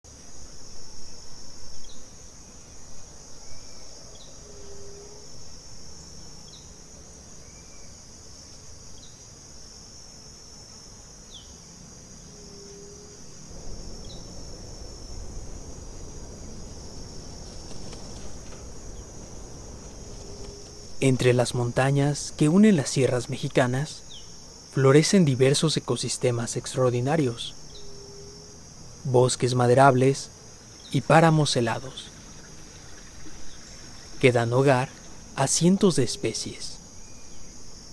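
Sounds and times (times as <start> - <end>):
insects trilling: 0.1 - 37.9.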